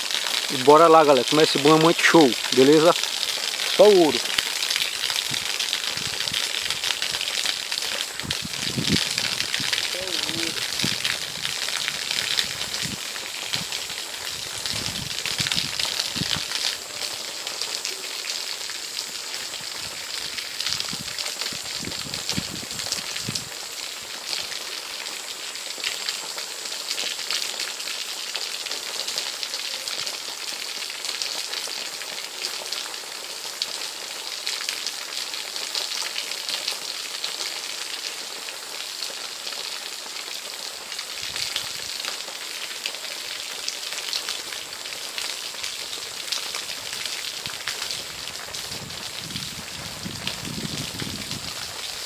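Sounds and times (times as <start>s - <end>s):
water pouring and splashing: 0.0s - 52.0s.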